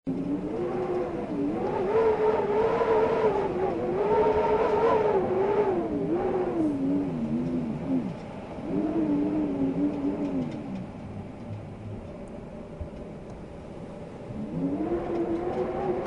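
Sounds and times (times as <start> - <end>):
wind howling: 0.1 - 16.0.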